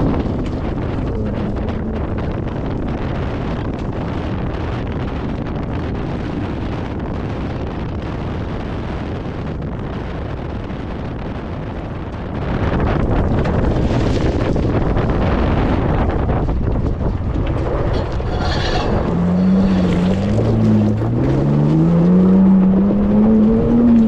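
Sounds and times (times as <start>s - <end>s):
truck driving on dirt: 0.0s - 24.0s
wind buffeting microphone: 0.0s - 24.0s.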